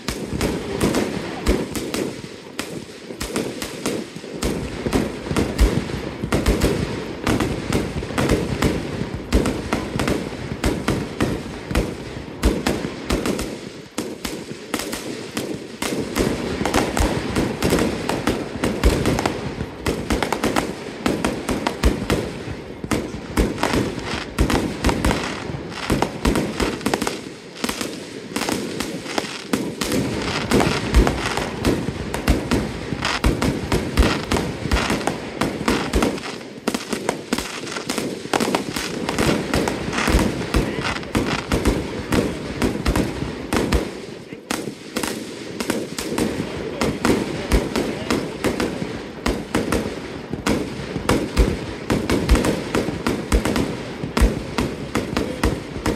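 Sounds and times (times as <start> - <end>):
fireworks banging and crackling: 0.0 - 55.9.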